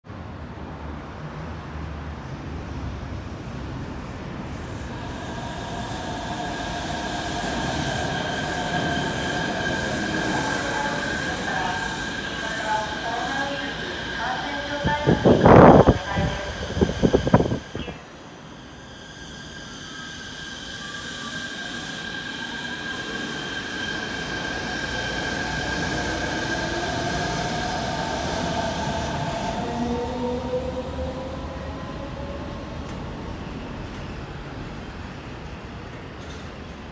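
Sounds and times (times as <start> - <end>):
monorail train whine: 2.2 - 36.9.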